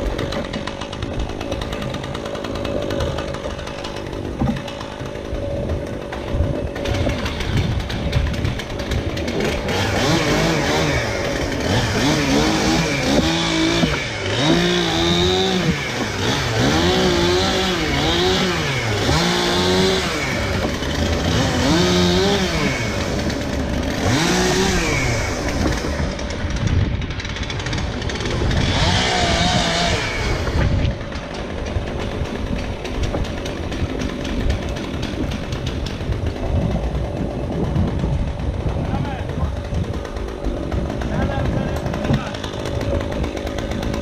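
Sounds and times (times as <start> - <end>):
chainsaw revving: 0.0 - 44.0.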